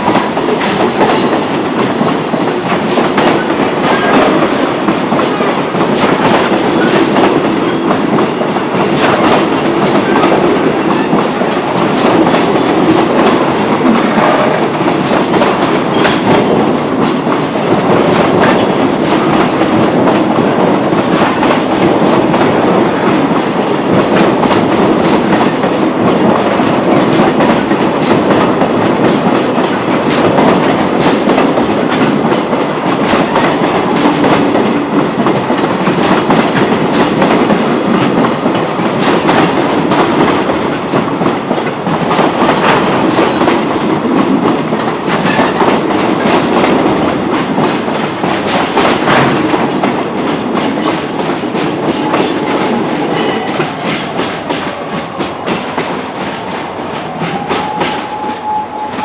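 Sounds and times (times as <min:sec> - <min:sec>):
train wheels clattering over rails: 0:00.0 - 0:59.0.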